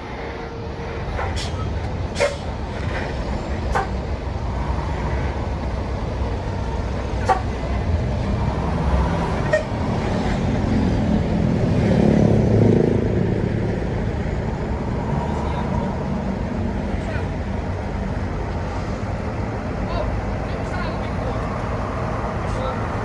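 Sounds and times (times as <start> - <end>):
heavy vehicle passing: 0.0 - 23.0
road traffic rumble: 0.0 - 23.0.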